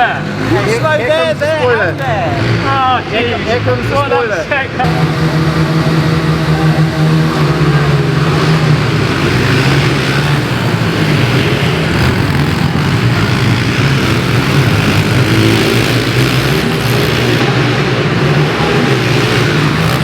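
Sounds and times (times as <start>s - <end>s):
pit bike engine running: 0.0s - 20.0s.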